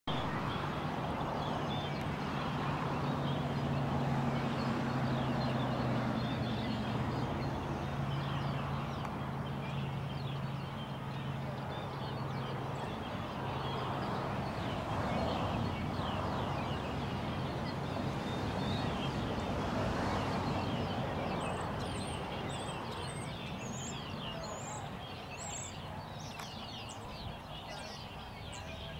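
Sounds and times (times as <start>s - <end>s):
birds chirping: 0.1s - 28.9s.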